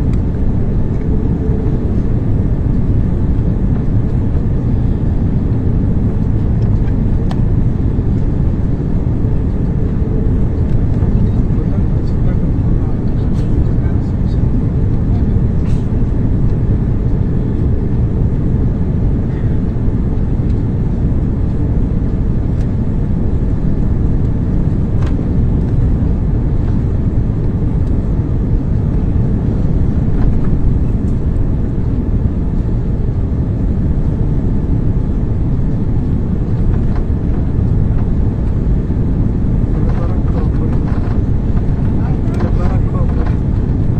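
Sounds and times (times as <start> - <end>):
airliner engine rumble in cabin: 0.0 - 43.9.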